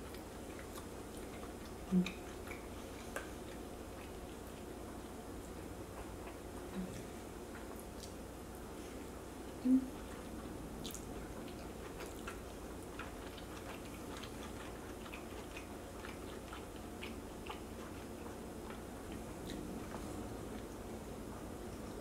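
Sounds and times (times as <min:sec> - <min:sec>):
chewing soft food: 0:00.0 - 0:22.0.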